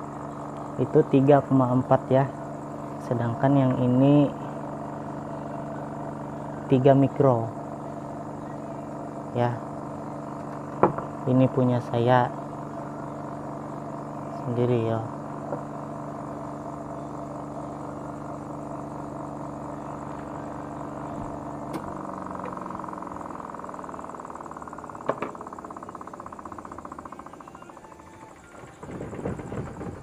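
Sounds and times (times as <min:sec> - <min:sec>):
spin tub whirring down: 0:00.0 - 0:30.0
spin-dryer motor humming: 0:00.0 - 0:30.0.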